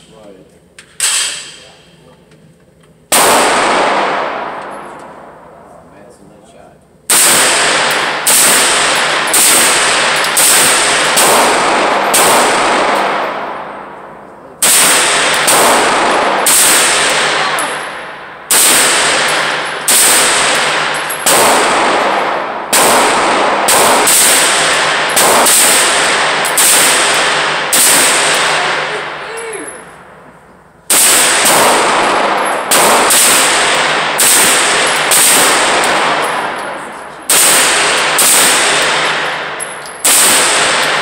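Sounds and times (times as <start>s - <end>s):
gunshots echoing: 3.1s - 5.7s, 7.1s - 30.3s, 30.9s - 41.0s.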